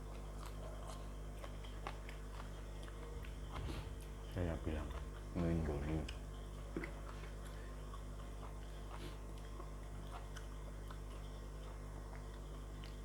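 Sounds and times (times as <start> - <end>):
person chewing: 0.0 - 4.3, 6.0 - 13.0
steady low hum: 0.0 - 13.0.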